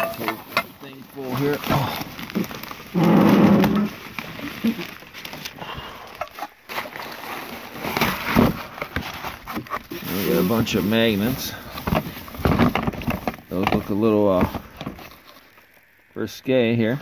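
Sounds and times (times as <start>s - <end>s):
rummaging through cardboard boxes: 0.0s - 15.7s.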